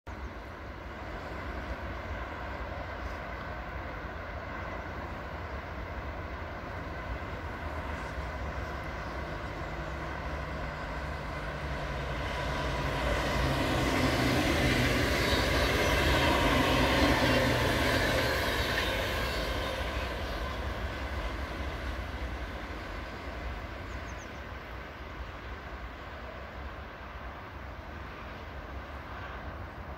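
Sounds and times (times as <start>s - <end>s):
electric train passing: 0.2s - 29.9s.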